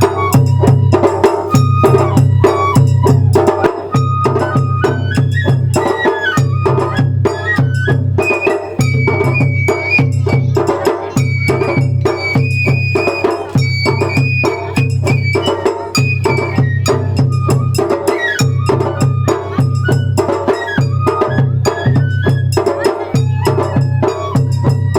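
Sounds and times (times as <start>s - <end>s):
bamboo flute melody: 0.0s - 24.9s
drum and percussion strikes: 0.0s - 24.9s.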